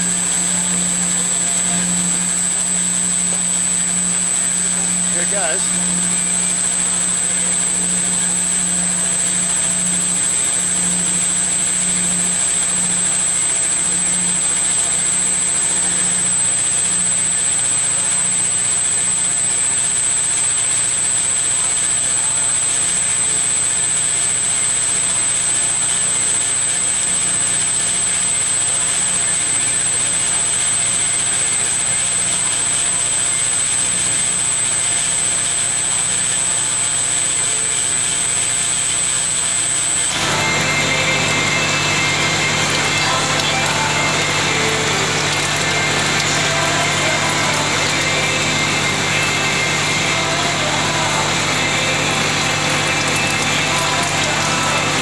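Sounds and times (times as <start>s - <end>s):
bandsaw cutting with high whine: 0.0s - 20.2s, 26.1s - 55.0s.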